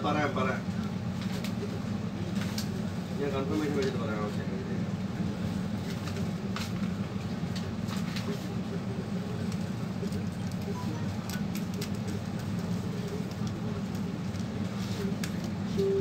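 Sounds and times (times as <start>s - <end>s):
steady low background hum: 0.0s - 16.0s.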